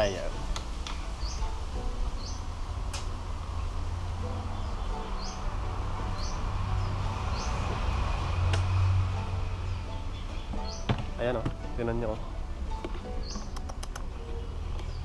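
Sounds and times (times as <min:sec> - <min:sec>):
bird chirping: 0:00.0 - 0:02.6, 0:03.4 - 0:15.0.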